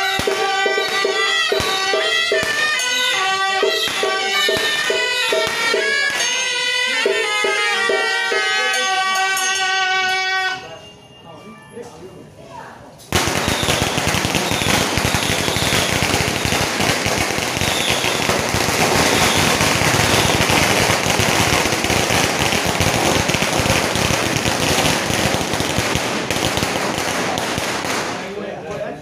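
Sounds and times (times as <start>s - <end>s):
firecrackers crackling: 0.0s - 10.6s, 13.1s - 29.0s.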